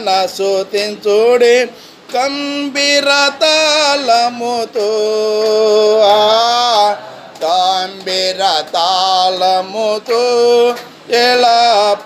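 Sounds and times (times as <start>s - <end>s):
man singing solo: 0.0s - 12.0s.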